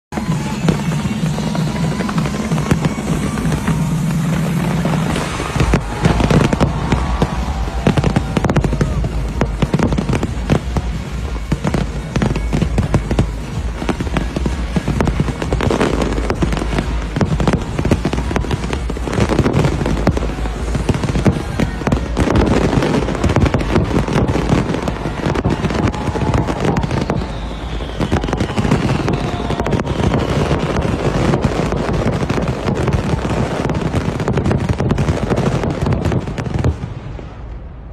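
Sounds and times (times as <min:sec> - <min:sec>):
crowd voices: 0:00.0 - 0:37.9
fireworks bangs and crackles: 0:00.1 - 0:37.9
music: 0:00.2 - 0:37.1.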